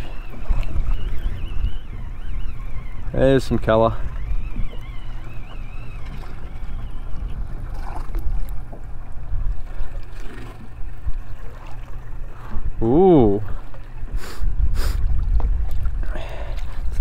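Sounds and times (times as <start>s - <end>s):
faint wavering whine: 0.0s - 14.1s
wind and water rumble: 0.0s - 17.0s.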